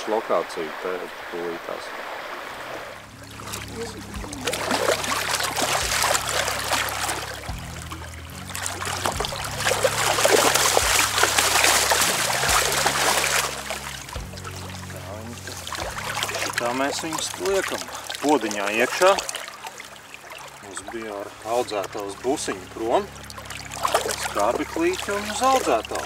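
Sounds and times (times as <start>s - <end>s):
fish thrashing in splashing water: 2.0s - 26.0s.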